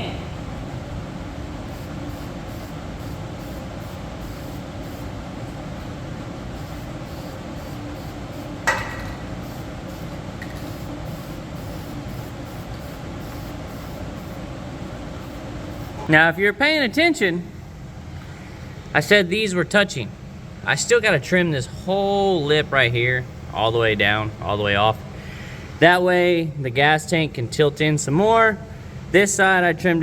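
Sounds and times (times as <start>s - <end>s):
mechanical shop hum: 0.0s - 30.0s.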